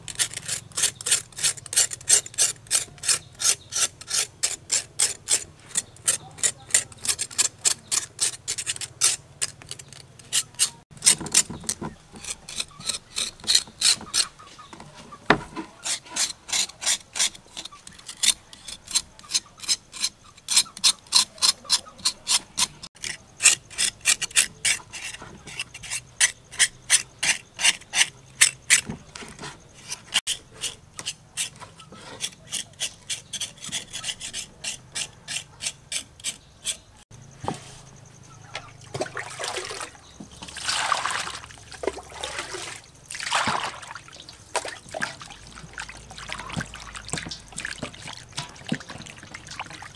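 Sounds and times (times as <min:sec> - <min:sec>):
knife scraping charred meat skin: 0:00.0 - 0:14.6, 0:15.6 - 0:37.1, 0:44.2 - 0:49.9.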